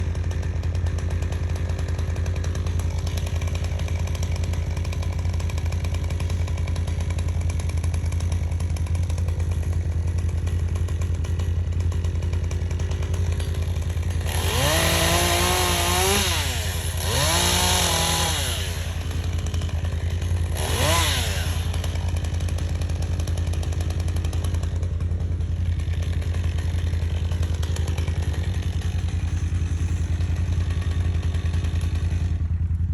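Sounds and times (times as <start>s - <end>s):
chainsaw idling and revving: 0.0s - 32.9s.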